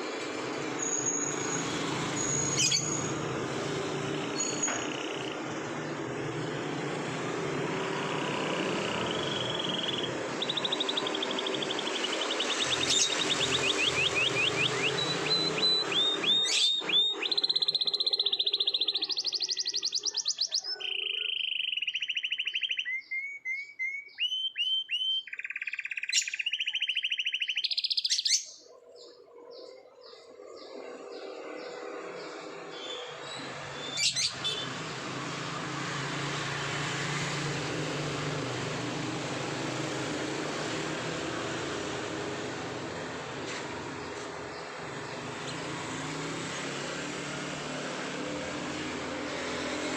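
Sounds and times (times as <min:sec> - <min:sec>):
canary singing trills: 0:00.6 - 0:46.4.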